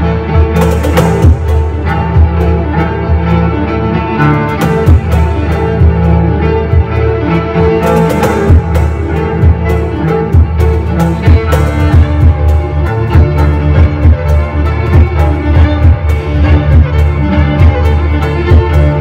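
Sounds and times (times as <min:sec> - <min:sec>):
bowed violin: 0:00.0 - 0:19.0
cajon tapping rhythm: 0:00.0 - 0:19.0
cello sustained low notes: 0:00.0 - 0:19.0.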